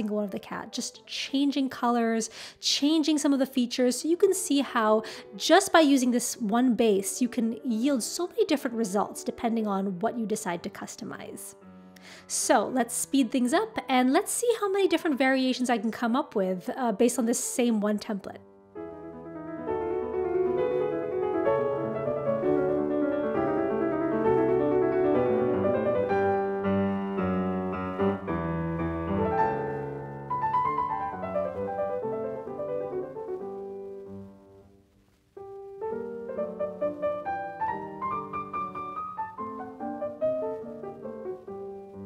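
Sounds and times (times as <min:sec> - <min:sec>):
piano music: 0:00.0 - 0:42.0.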